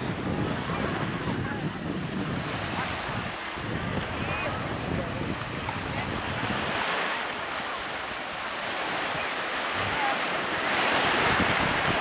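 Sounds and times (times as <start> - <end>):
sea surf washing on shore: 0.0 - 12.0
wind on microphone: 0.0 - 12.0.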